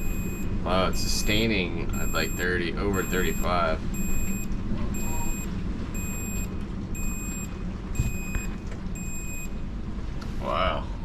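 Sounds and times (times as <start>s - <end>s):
electronic alarm beeps: 0.0s - 9.6s.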